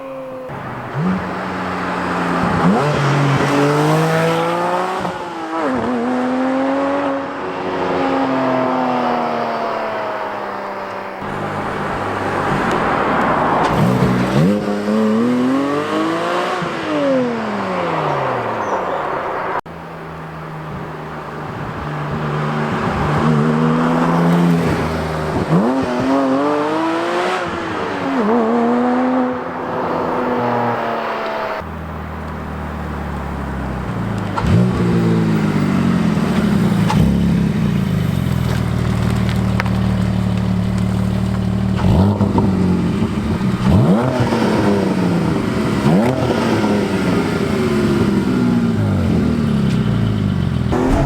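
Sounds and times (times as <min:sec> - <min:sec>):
car exhaust under hard acceleration: 0:00.5 - 0:07.2, 0:11.2 - 0:19.0, 0:19.7 - 0:51.0.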